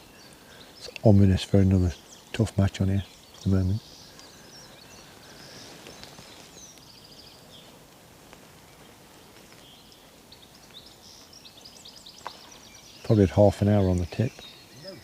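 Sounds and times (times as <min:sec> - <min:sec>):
small birds chirping: 0:00.0 - 0:15.0
soft steady hiss: 0:00.0 - 0:15.0.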